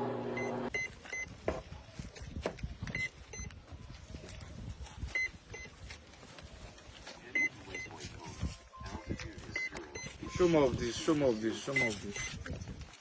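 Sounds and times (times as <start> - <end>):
handling and rustling noise: 0.7 - 13.0.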